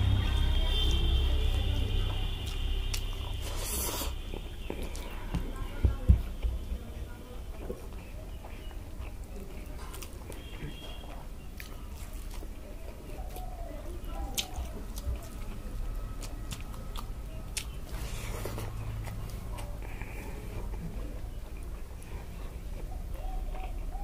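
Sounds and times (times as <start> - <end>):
person chewing food: 2.4 - 5.6, 7.5 - 24.0.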